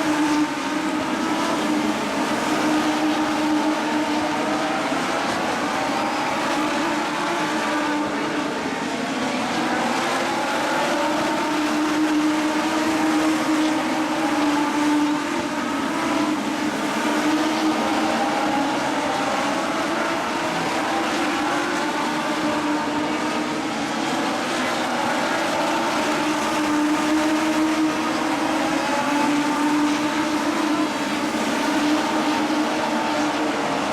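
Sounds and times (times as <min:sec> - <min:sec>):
race car engines at high revs: 0:00.0 - 0:33.9.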